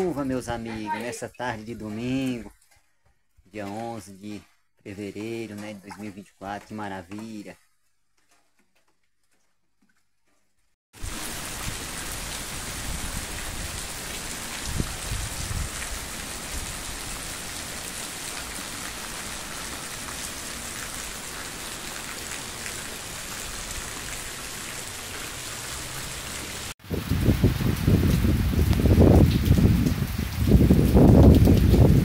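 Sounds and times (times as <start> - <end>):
rain falling: 3.6 - 8.4, 11.0 - 32.0.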